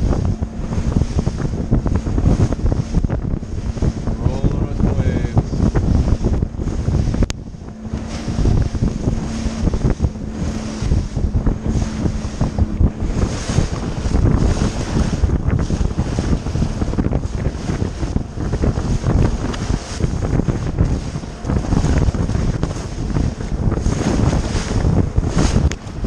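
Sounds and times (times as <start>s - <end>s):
hull thumping on waves: 0.0s - 26.0s
wind buffeting microphone: 0.0s - 26.0s.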